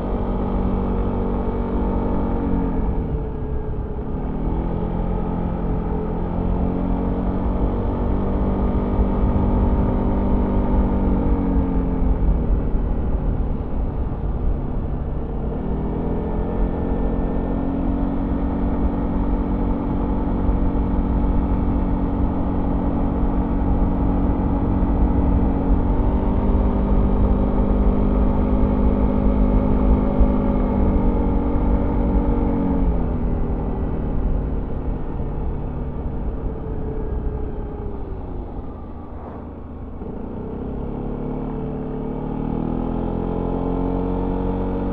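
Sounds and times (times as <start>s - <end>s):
steady low rumble: 2.1s - 42.2s.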